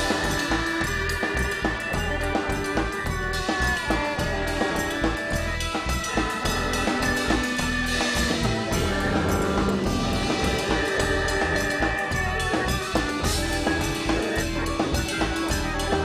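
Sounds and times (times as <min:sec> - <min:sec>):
band playing instrumental: 0:00.0 - 0:16.0
drum kit beat: 0:00.0 - 0:16.0.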